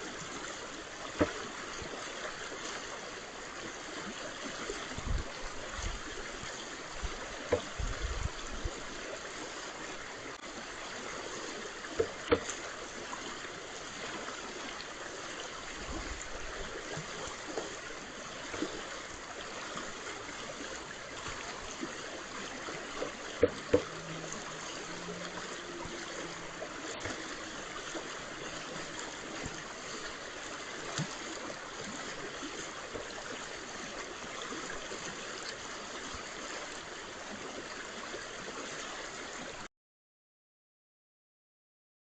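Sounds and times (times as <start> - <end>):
rushing flowing water: 0.0 - 39.7.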